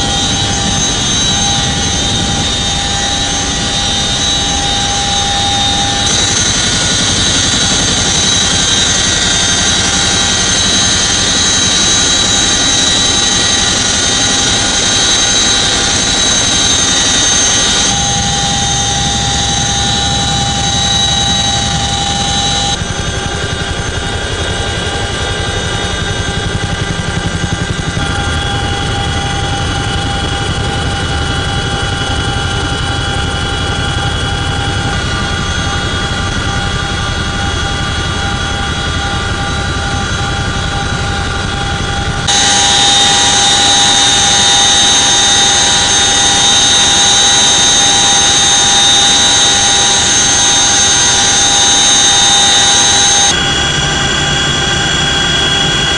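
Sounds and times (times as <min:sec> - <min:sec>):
helicopter low rumble: 0:00.0 - 0:55.9
helicopter transmission whine: 0:00.0 - 0:55.9.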